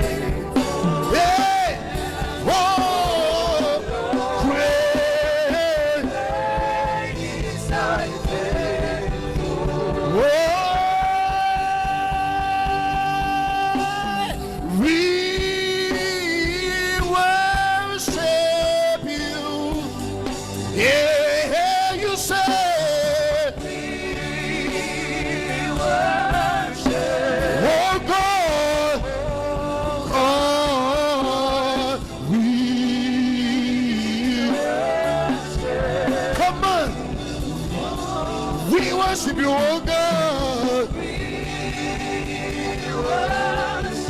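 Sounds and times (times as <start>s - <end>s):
band playing: 0.0s - 44.0s
congregation singing: 0.0s - 44.0s
man singing with vibrato: 0.0s - 44.0s.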